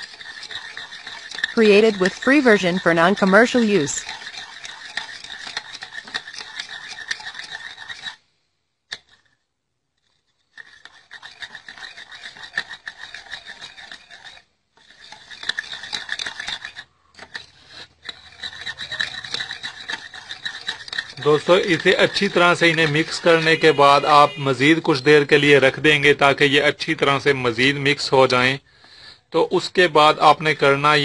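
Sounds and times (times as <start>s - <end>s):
gritty scrape of sugar grains: 0.0s - 8.3s, 8.9s - 9.4s, 10.0s - 28.2s, 29.6s - 31.0s.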